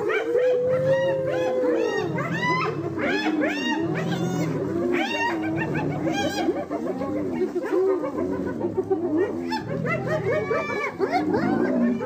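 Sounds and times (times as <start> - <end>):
chorus of animals calling: 0.0 - 12.0.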